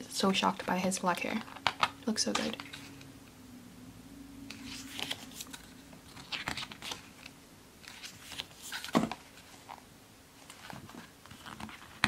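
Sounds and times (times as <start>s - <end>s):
pages rustling: 0.4s - 3.1s, 4.5s - 12.0s.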